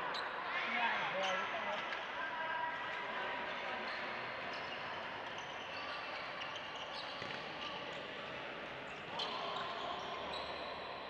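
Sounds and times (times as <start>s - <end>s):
sports hall din: 0.0s - 11.0s.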